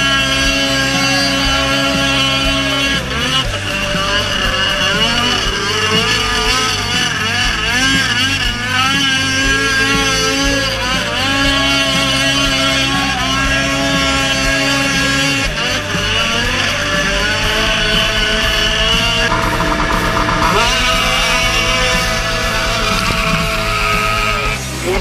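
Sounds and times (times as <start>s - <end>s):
snowmobile engine running hard: 0.0s - 25.0s.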